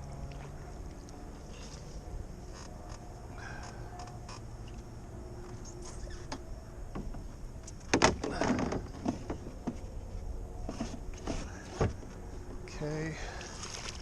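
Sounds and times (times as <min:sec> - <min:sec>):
rustling and clatter: 0:00.2 - 0:12.6.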